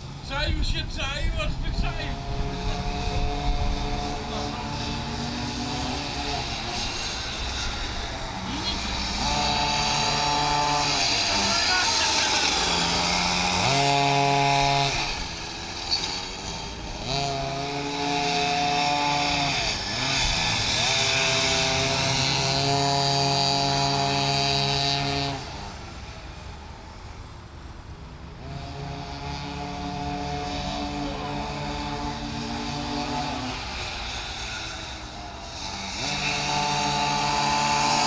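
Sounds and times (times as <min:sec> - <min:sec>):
small two-stroke engines revving: 0:00.0 - 0:38.0.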